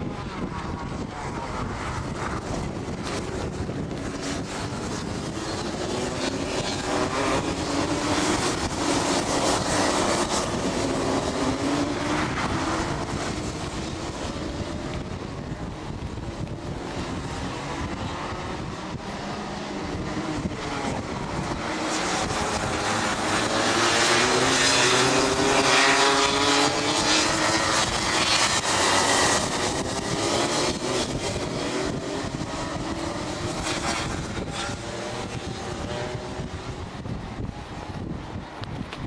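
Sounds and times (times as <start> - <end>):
kart engines revving: 0.0 - 38.4.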